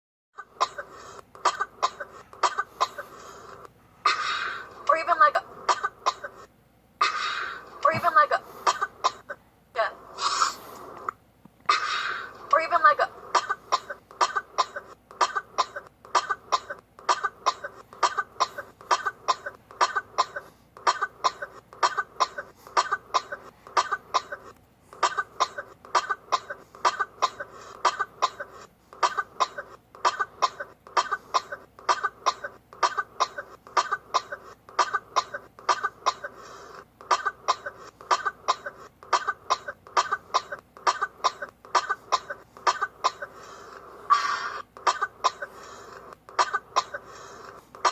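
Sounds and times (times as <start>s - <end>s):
rapid short coughs: 0.6s - 9.4s, 10.2s - 11.0s, 11.7s - 47.9s.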